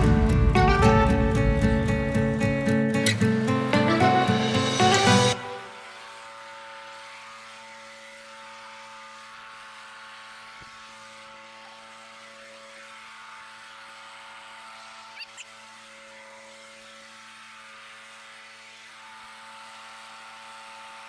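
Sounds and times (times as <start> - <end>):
small engine humming: 0.0 - 21.0.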